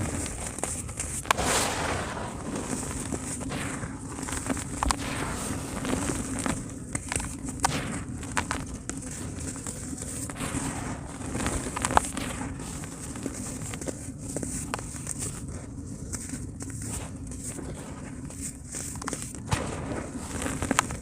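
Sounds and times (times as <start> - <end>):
cement crumbling: 0.0 - 21.0
steady low hum: 0.0 - 21.0.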